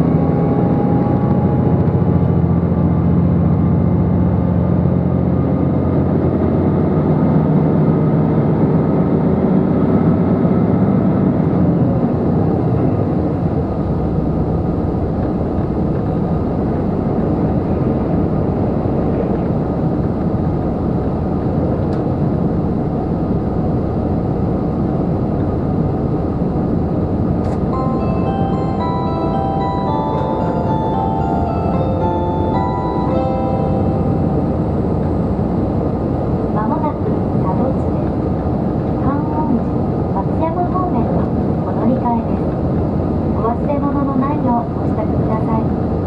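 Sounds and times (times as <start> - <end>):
diesel engine hum: 0.0 - 46.0
train wheel and rail noise: 0.0 - 46.0.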